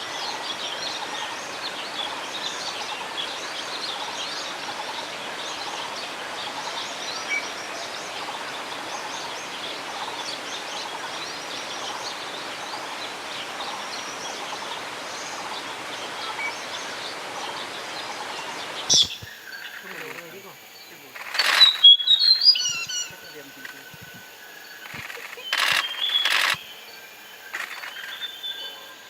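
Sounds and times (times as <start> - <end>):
background hiss: 0.0 - 29.0
flock of birds chirping: 0.0 - 29.0.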